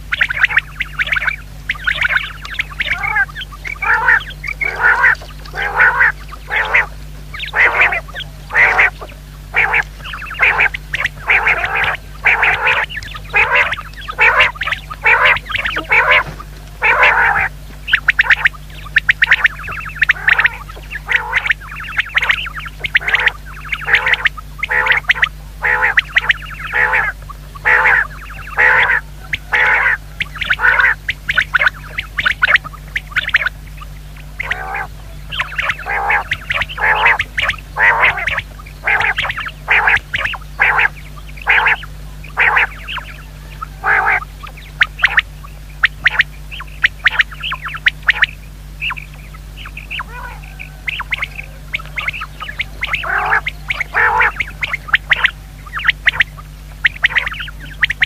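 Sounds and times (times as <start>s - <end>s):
quail calling: 0.0s - 58.0s.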